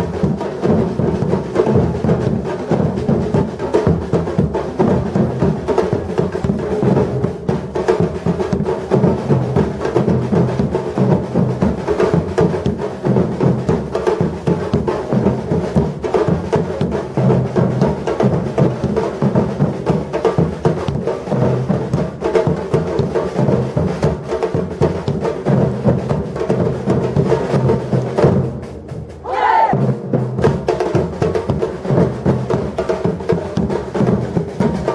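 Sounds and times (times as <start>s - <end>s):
hand percussion: 0.0s - 28.4s
percussion band drumming: 0.0s - 34.9s.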